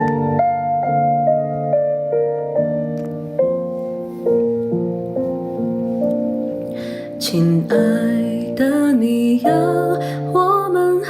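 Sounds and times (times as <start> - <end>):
gentle piano: 0.0 - 11.0.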